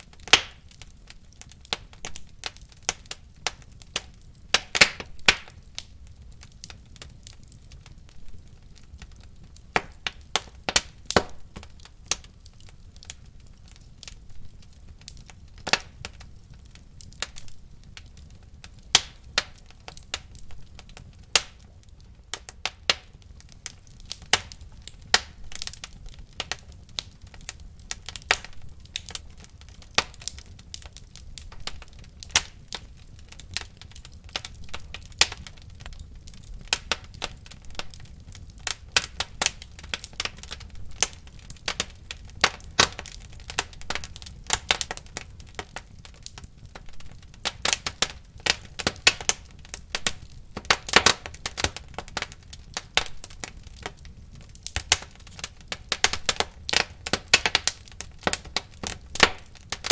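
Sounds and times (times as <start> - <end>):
low rumble of burning: 0.0 - 59.9
wood fire crackling and popping: 0.0 - 59.9.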